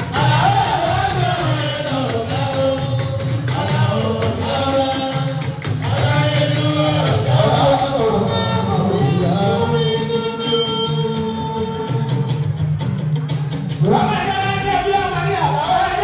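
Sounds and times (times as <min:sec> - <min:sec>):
band playing: 0:00.0 - 0:16.0.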